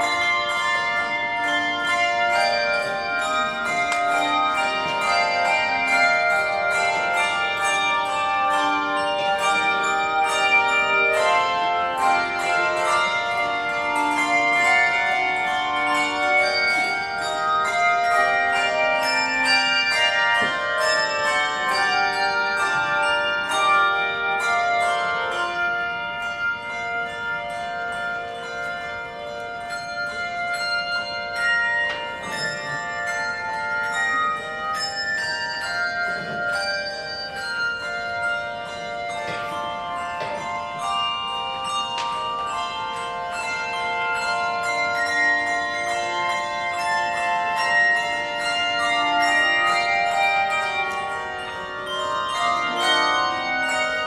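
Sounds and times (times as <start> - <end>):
handbell choir playing chords: 0.0 - 54.0.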